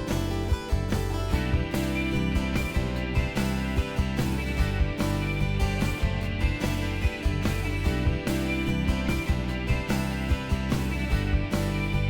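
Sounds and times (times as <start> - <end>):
upbeat country music: 0.0 - 12.0.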